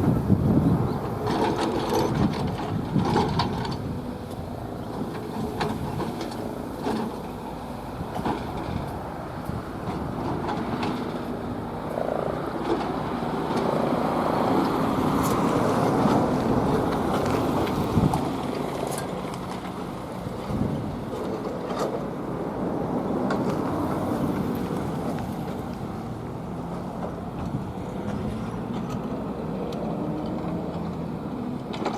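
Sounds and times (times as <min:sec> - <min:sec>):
electric train rumbling on rails: 0:00.0 - 0:31.9
wheels clicking and knocking: 0:00.0 - 0:31.9.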